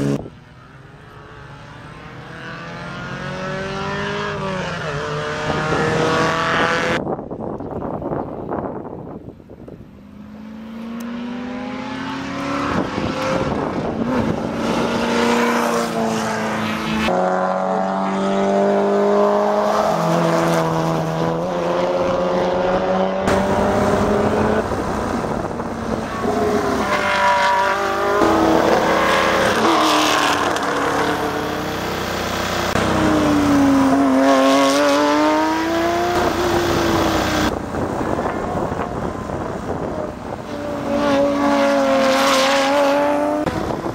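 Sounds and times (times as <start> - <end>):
race car engines passing: 0.0 - 7.0, 9.8 - 43.9.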